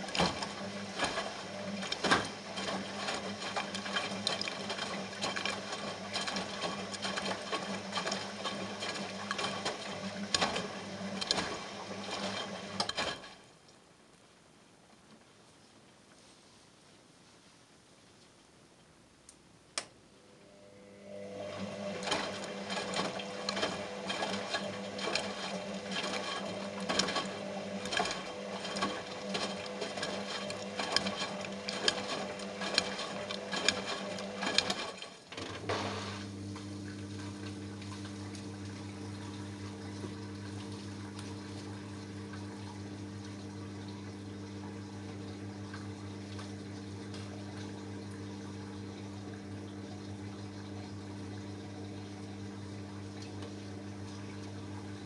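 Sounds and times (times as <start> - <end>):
washing machine motor humming: 0.0 - 13.4, 20.2 - 55.0
drain pump humming: 0.0 - 13.6, 20.1 - 55.0
water sloshing: 0.0 - 13.6, 21.0 - 55.0.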